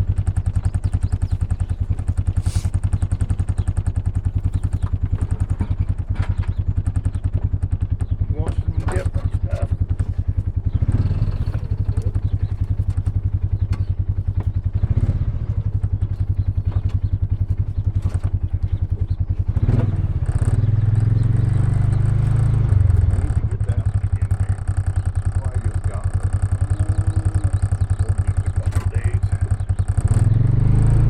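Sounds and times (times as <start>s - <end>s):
light rattles and clatter: 0.0s - 30.3s
vehicle engine running: 0.0s - 31.0s.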